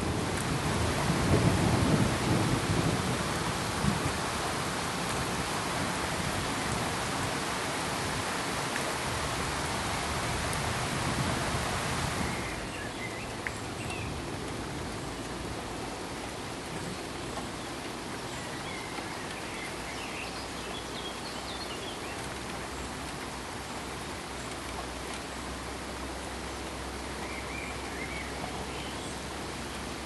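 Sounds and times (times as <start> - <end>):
pink noise hiss: 0.0 - 30.0.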